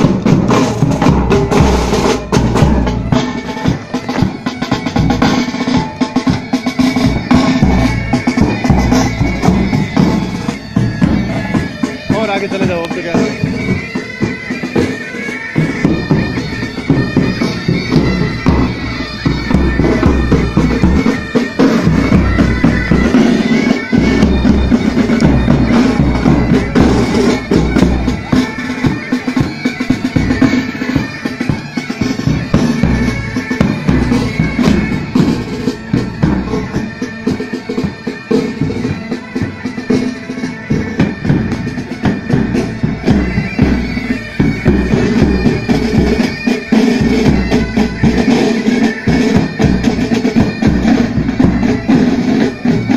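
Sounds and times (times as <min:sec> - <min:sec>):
side drum rolls: 0:00.0 - 0:15.0, 0:15.6 - 0:52.9
bagpipes playing: 0:00.0 - 0:52.9.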